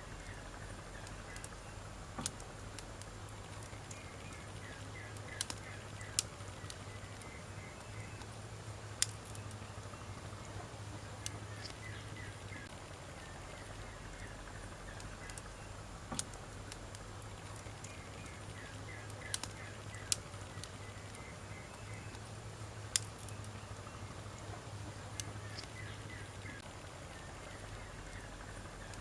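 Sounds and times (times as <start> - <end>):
small chirps: 0.0 - 8.4, 9.0 - 29.0
campfire crackling and snapping: 0.0 - 29.0
steady low hum: 0.0 - 29.0.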